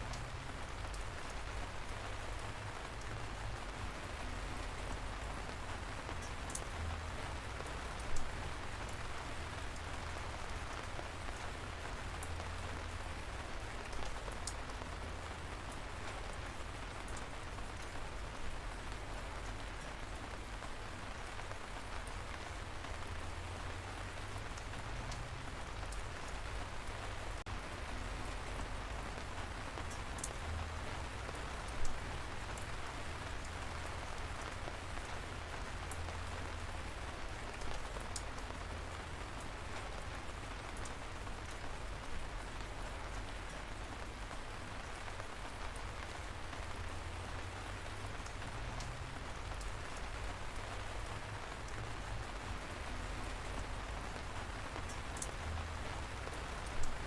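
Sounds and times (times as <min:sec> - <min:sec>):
light rain falling: 0:00.0 - 0:57.0
raindrops ticking nearby: 0:00.0 - 0:57.0.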